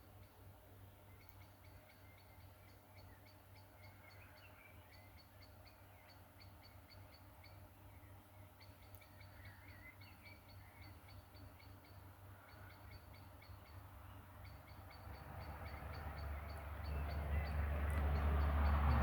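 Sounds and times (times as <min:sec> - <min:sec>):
soft twittering chirps: 0:00.0 - 0:19.0.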